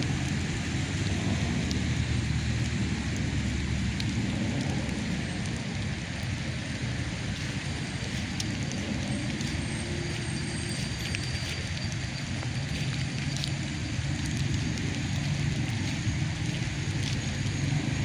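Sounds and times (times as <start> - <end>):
city traffic rumble: 0.0 - 18.0
wet street hiss: 0.0 - 18.0.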